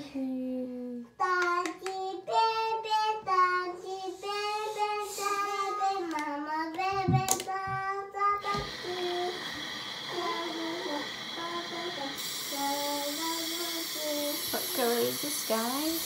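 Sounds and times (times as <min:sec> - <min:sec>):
child singing: 0:01.2 - 0:09.4, 0:10.1 - 0:14.8.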